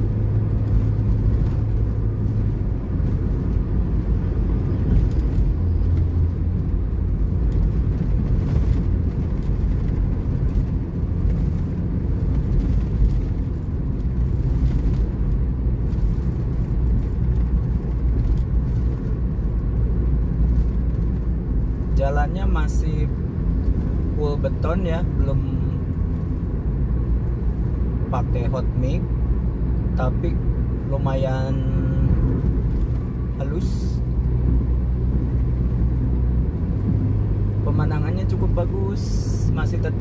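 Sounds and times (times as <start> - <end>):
car engine humming: 0.0 - 40.0.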